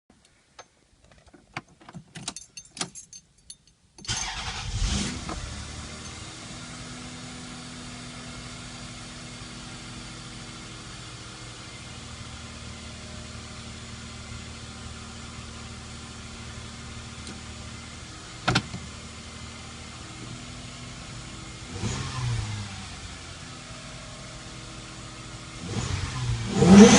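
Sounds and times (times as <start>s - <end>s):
car engine starting and idling: 4.0s - 26.9s.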